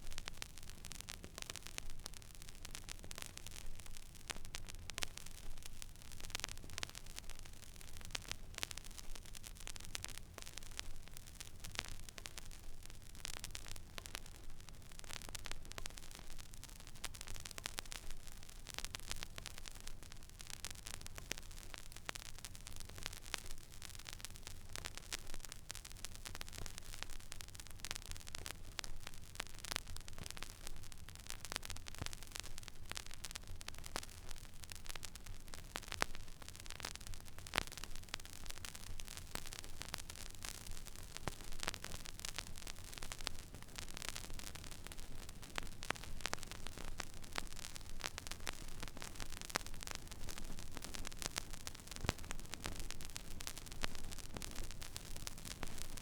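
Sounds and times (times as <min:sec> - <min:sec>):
vinyl surface hiss with clicks: 0:00.0 - 0:56.0.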